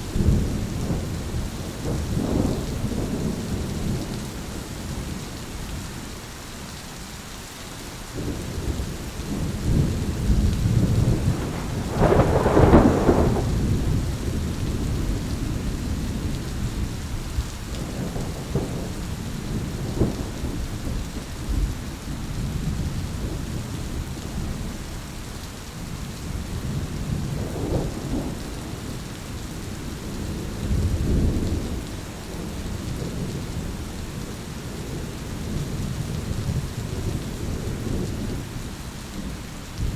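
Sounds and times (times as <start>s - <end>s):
rolling thunder: 0.0s - 5.1s, 8.2s - 17.2s, 17.8s - 24.8s, 26.3s - 38.5s
steady rain: 0.0s - 39.9s.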